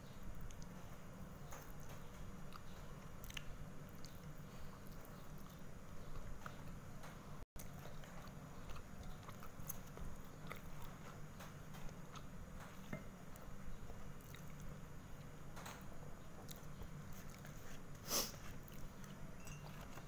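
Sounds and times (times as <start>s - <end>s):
chewing: 0.4s - 6.8s, 7.6s - 15.3s, 16.4s - 20.0s.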